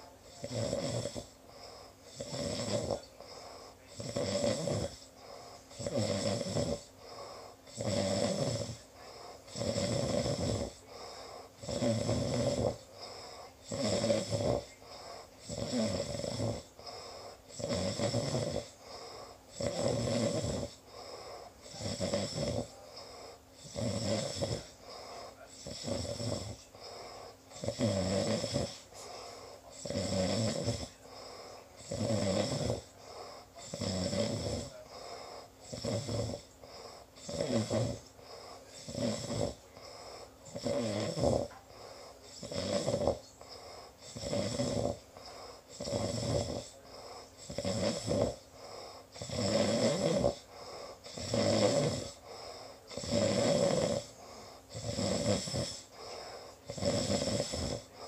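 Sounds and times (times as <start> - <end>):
person snoring: 0.0 - 58.0
soft breathing: 0.0 - 58.0.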